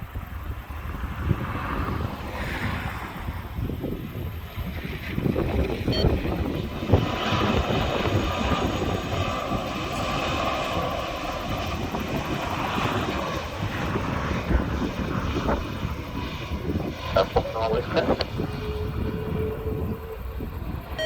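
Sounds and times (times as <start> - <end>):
jet engines rumbling and whining: 0.0 - 21.0
wind buffeting microphone: 0.0 - 21.0.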